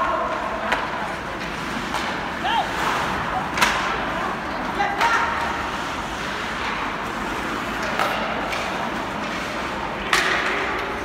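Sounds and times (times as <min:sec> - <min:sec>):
hockey play and crowd noise: 0:00.0 - 0:11.0.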